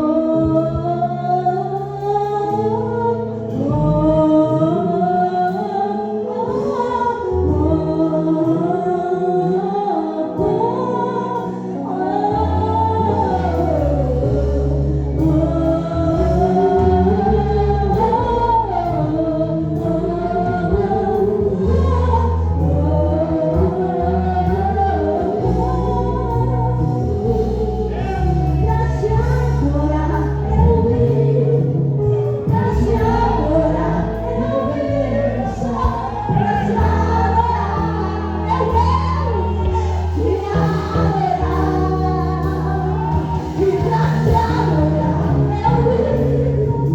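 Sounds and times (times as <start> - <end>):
group singing gospel song: 0.0 - 46.9
sustained bass notes: 0.0 - 46.9.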